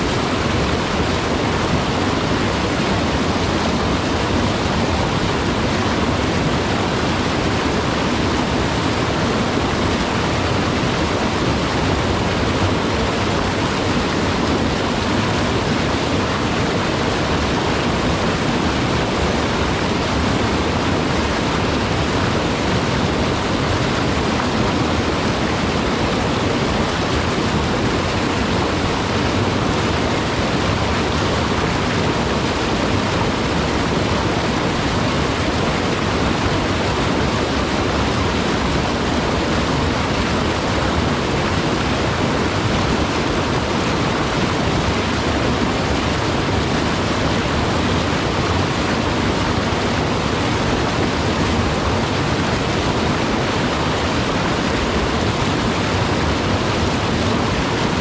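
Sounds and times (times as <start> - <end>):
stream rushing over boulders: 0.0 - 58.0.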